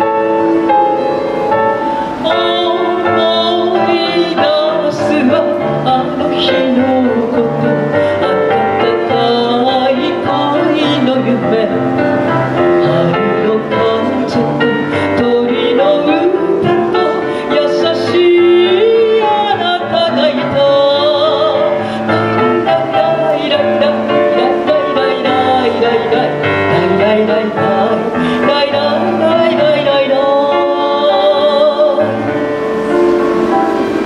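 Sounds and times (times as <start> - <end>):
instrumental accompaniment: 0.0 - 34.0
woman singing with vibrato: 0.0 - 34.0.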